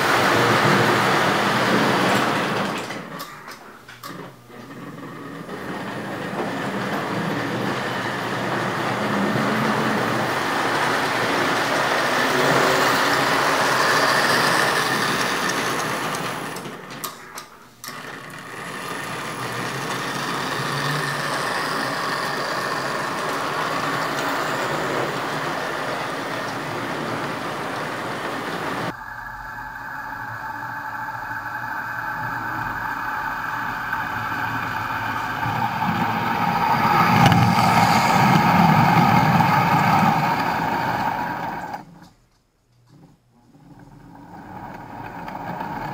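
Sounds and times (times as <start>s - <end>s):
model train wheels clattering: 0.0s - 29.0s, 30.7s - 42.2s, 43.7s - 45.9s.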